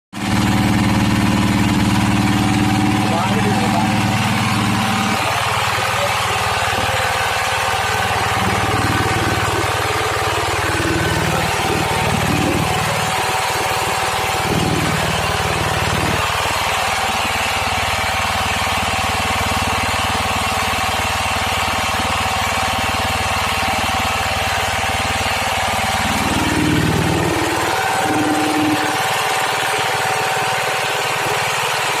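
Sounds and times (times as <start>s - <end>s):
pellet mill running: 0.2s - 32.0s.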